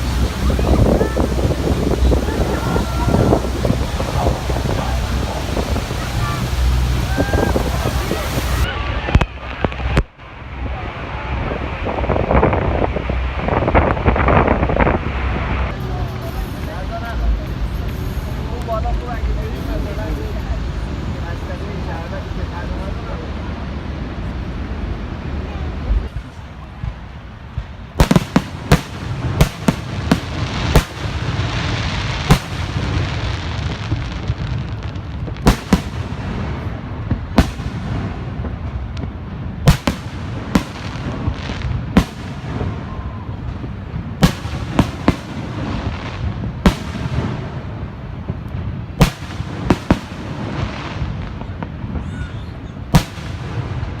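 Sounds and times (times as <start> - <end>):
fireworks bangs: 0.0 - 54.0
steady rushing background noise: 0.0 - 54.0.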